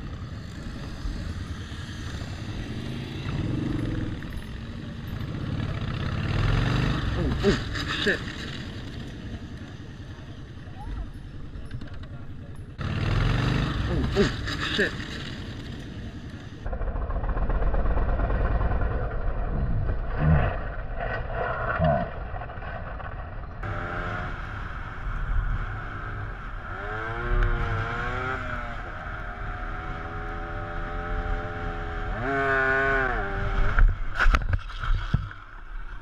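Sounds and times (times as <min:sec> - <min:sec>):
motorcycle engine revving: 0:00.0 - 0:34.4
wind and road noise: 0:00.0 - 0:36.0.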